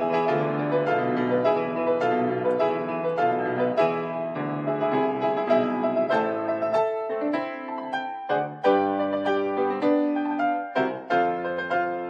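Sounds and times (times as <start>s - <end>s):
piano playing chords: 0.0s - 12.0s.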